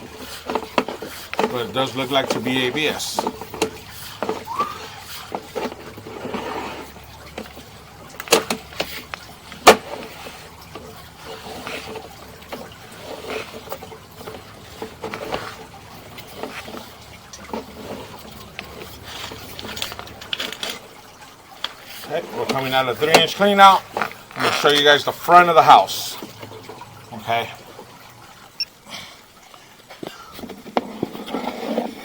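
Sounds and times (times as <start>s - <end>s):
push cable scraping and rattling: 0.0s - 26.8s, 30.4s - 32.0s.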